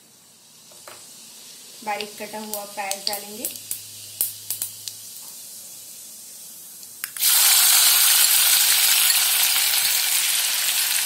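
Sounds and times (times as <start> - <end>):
onion sizzling in oil: 0.0 - 11.0
seeds crackling in hot oil: 0.0 - 11.0.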